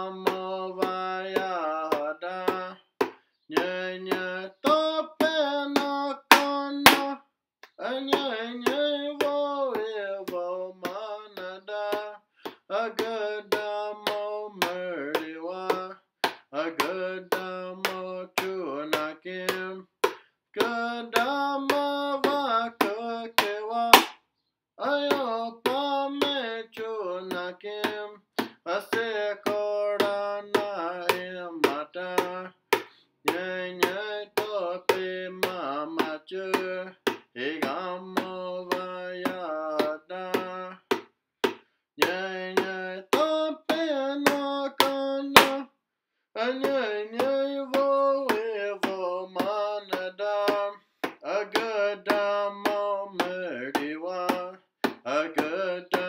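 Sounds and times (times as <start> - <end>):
person singing: 0.0 - 2.8, 3.5 - 16.0, 16.6 - 19.9, 20.6 - 24.0, 24.8 - 40.9, 42.0 - 45.7, 46.4 - 56.0
percussive clicks on a beat: 0.0 - 24.2, 24.8 - 45.6, 46.4 - 56.0.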